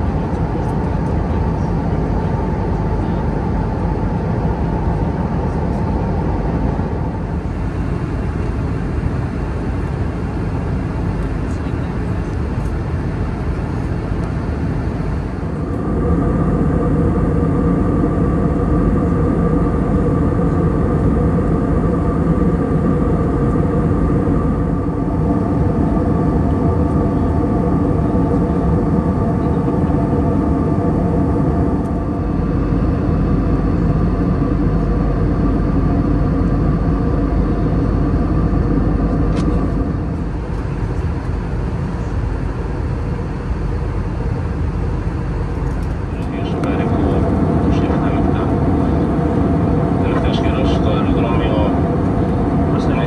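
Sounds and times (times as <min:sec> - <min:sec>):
airplane cabin airflow rush: 0:00.0 - 0:53.0
humming engine tones: 0:00.0 - 0:53.0.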